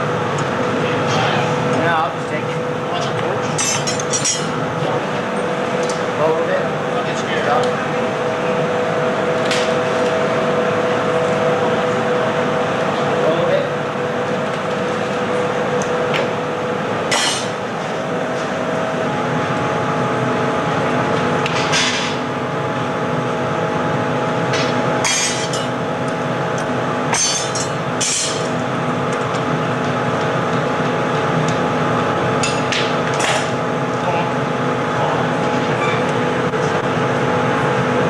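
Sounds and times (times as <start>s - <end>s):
burner and blowers roaring: 0.0s - 38.0s.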